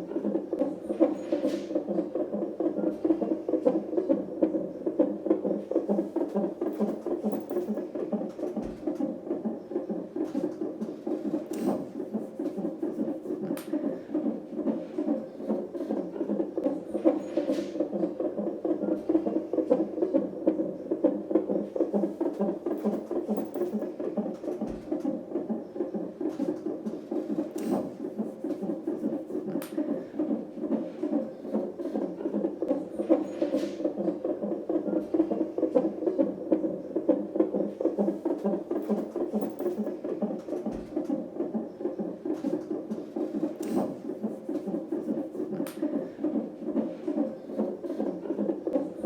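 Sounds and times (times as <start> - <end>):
fetal heartbeat on doppler monitor: 0.0 - 49.0.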